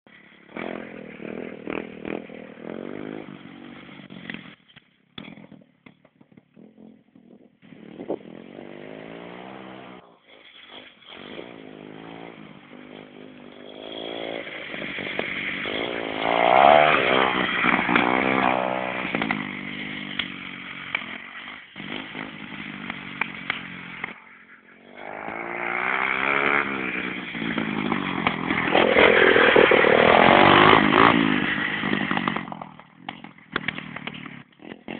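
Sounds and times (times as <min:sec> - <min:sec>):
dirt bike engine revving: 0:00.4 - 0:04.5, 0:06.6 - 0:34.9.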